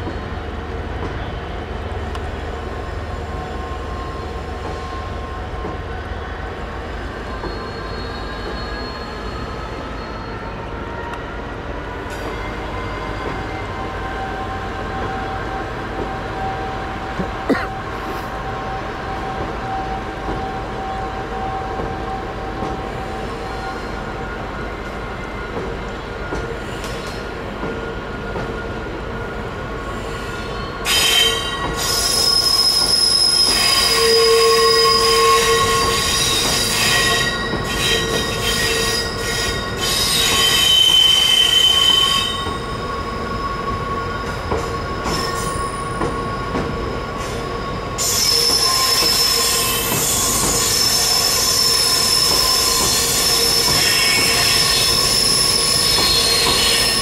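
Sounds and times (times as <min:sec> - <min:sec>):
train wheels squealing: 0:00.0 - 0:17.3, 0:18.0 - 0:57.0
train wheels rumbling: 0:00.0 - 0:57.0.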